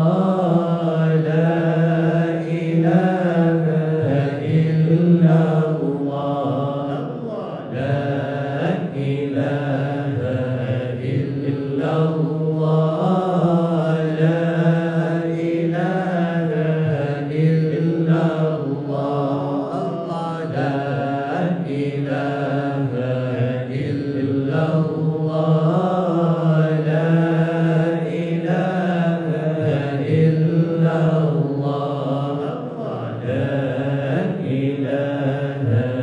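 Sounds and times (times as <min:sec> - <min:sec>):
voices chanting together: 0:00.0 - 0:36.0.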